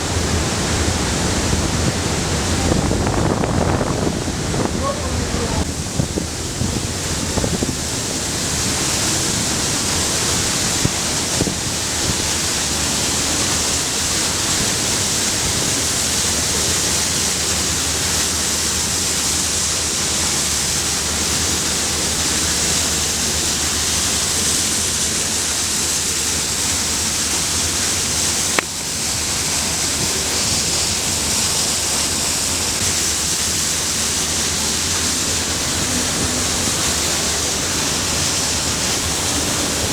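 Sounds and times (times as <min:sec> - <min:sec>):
ventilation fan air roar: 0:00.0 - 0:39.9.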